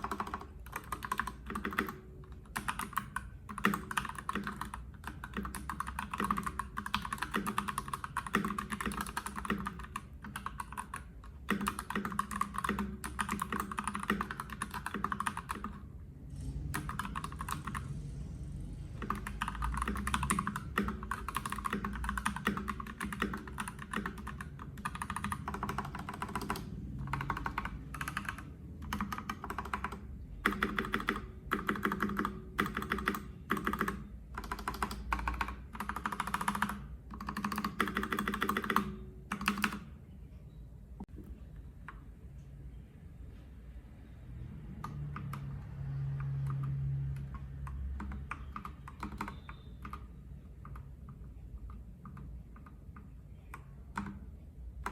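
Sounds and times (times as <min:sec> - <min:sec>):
mechanical keyboard typing: 0:00.0 - 0:15.9, 0:16.7 - 0:17.9, 0:19.0 - 0:39.9, 0:44.8 - 0:54.9.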